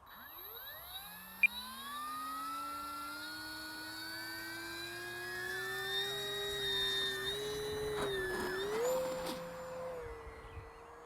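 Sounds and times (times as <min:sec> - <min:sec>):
electric motor and propeller whine: 0:00.0 - 0:11.0.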